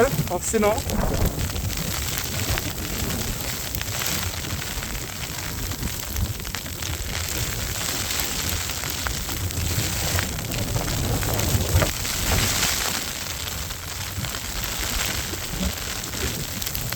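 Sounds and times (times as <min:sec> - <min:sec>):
crackly hiss: 0:00.0 - 0:16.9
wind buffeting microphone: 0:00.0 - 0:16.9.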